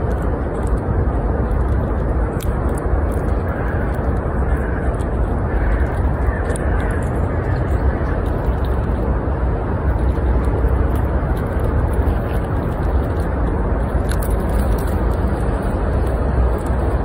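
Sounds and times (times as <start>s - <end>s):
steady outdoor rumble with hiss: 0.0s - 17.0s.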